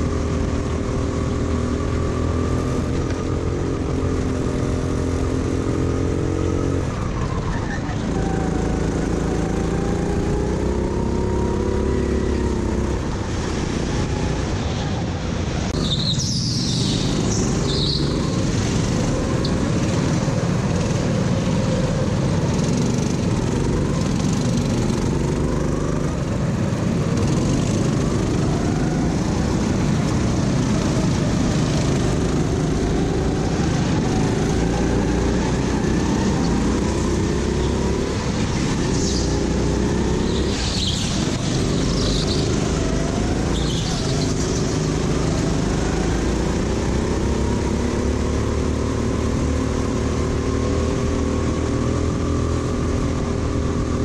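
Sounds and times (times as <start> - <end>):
go-kart engine revving: 0.0 - 14.3, 15.7 - 54.0.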